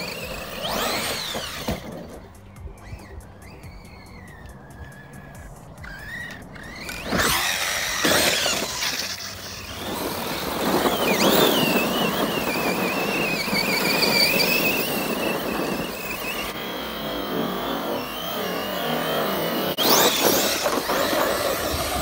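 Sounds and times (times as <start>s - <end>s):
electric motor whining: 0.0s - 22.0s
tyres tearing through dirt: 0.0s - 22.0s.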